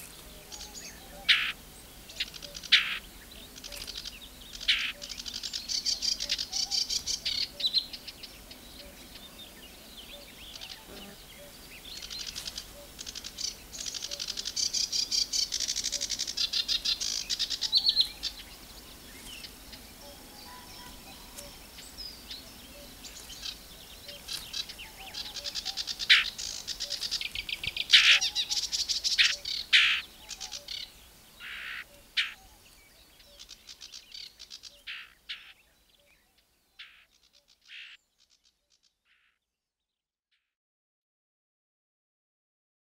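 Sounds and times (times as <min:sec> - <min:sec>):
warbler singing: 0:00.0 - 0:39.4.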